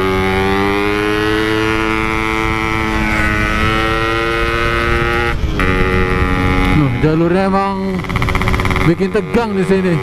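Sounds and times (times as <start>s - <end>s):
two-stroke motorcycle engine pulling: 0.0s - 10.0s.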